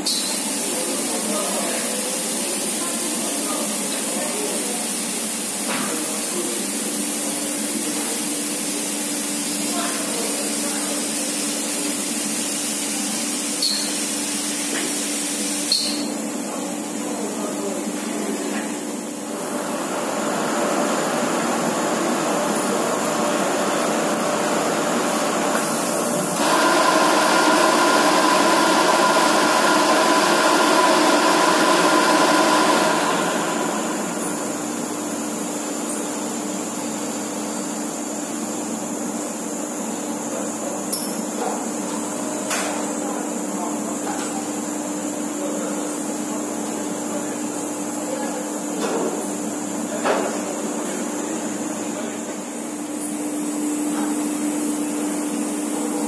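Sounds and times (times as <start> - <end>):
machinery hiss and hum: 0.0 - 56.0.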